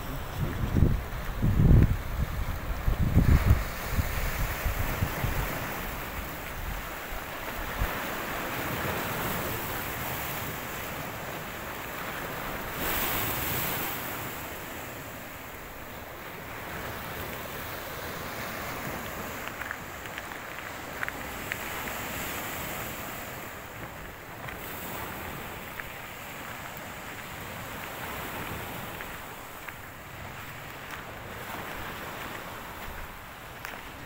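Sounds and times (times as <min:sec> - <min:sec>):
waves washing on rocky shore: 0:00.0 - 0:34.0
wind buffeting microphone: 0:00.0 - 0:34.0.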